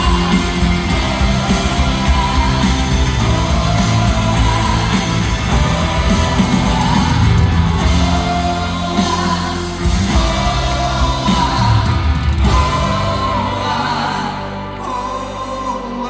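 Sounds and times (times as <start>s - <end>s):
live pop-rock band: 0.0s - 16.0s
person singing: 0.0s - 16.0s.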